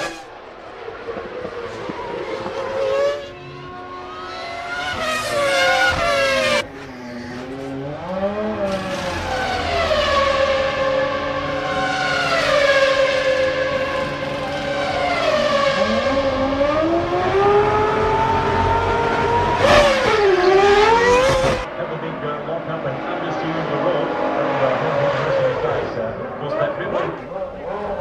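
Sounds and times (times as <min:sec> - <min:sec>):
racing car engines screaming: 0:00.0 - 0:28.0.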